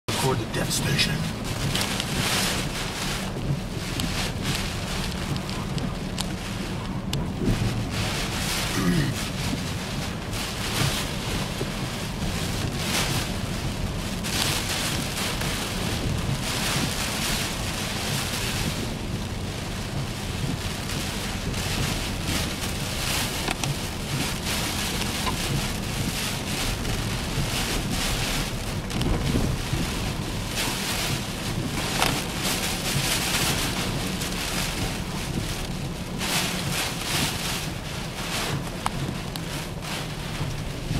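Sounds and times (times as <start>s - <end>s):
car driving on wet road: 0.1s - 40.9s
heavy rain on car roof: 0.1s - 40.9s.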